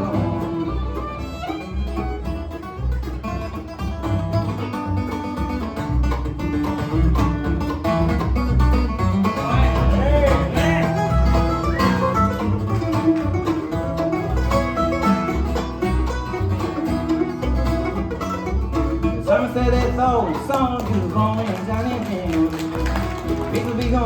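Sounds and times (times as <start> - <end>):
fast banjo picking: 0.0 - 24.0
guitar picking: 0.0 - 24.0
upright bass pulse: 0.0 - 24.0.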